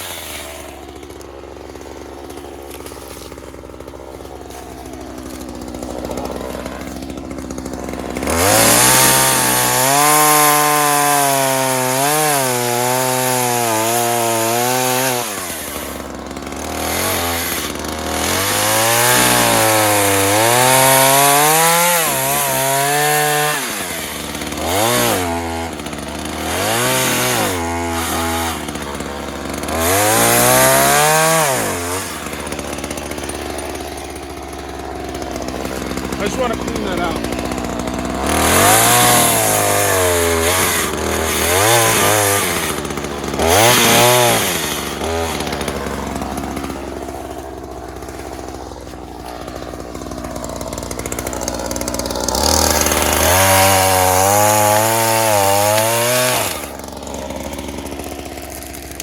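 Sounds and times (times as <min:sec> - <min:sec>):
chainsaw cutting wood: 0:00.0 - 0:59.0
chainsaw idling: 0:00.0 - 0:59.0
chainsaw throttle blips: 0:00.0 - 0:59.0.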